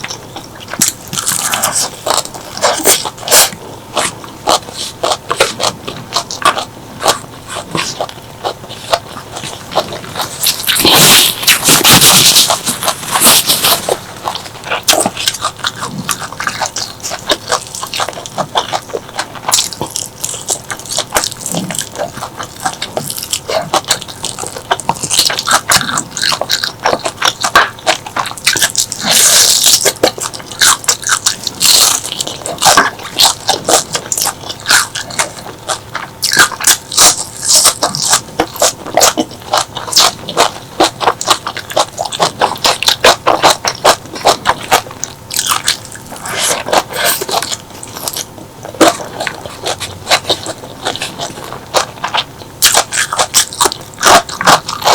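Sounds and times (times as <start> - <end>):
chewing with wet mouth clicks: 0.0 - 54.9
crunchy biting: 0.0 - 54.9.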